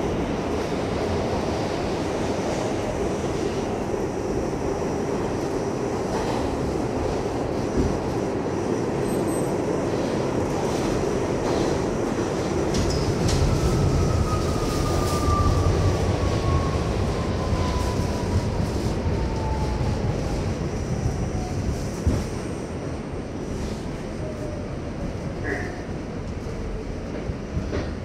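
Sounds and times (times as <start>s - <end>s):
subway car wheels rumbling: 0.0s - 28.0s.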